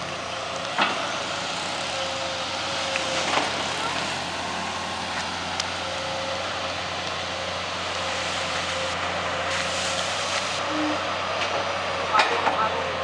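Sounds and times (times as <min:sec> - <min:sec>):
dredger engine running: 0:00.0 - 0:13.0.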